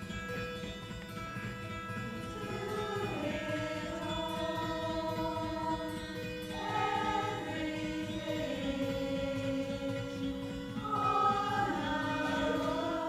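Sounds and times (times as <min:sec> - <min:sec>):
women's choir singing in harmony: 0:02.1 - 0:13.0.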